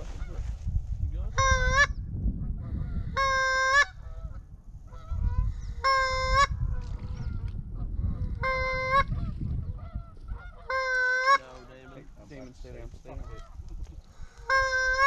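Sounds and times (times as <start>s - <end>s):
waterfowl honking: 1.4s - 15.0s.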